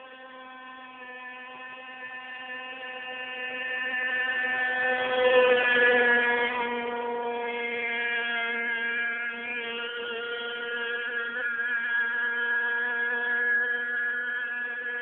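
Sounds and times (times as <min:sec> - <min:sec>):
toy speedboat motor: 0:00.0 - 0:15.0.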